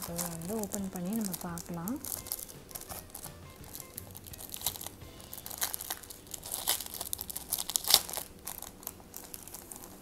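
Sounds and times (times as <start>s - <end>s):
plastic cover crinkling: 0.0s - 10.0s.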